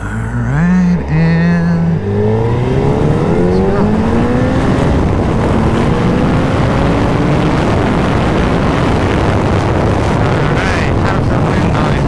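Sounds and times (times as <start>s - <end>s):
motorcycle engine accelerating: 0.5s - 12.0s
wind noise rushing: 0.7s - 12.0s.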